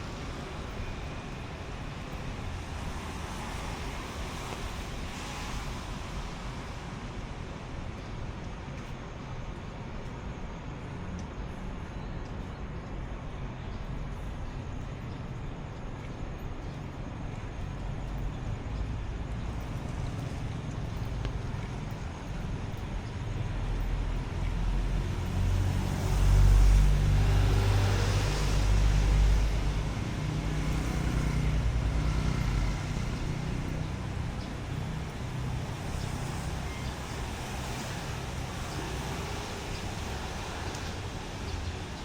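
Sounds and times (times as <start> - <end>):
street traffic: 0.0 - 42.0.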